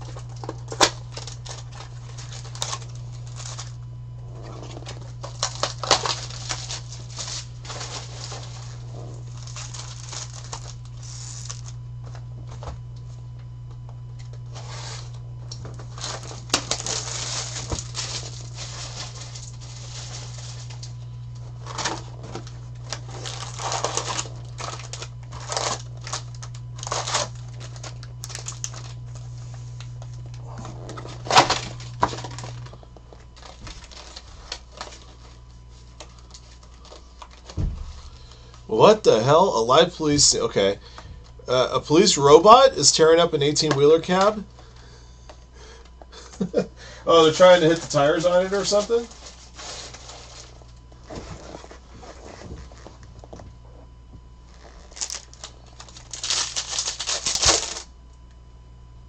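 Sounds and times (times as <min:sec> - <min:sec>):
foil packs crinkling: 0:00.0 - 0:58.0
steady low hum: 0:00.0 - 0:59.0.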